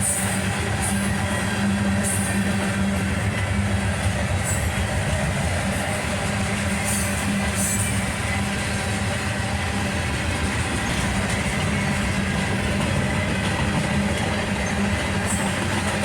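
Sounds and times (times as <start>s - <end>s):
freight cars rumbling on rails: 0.0s - 16.0s.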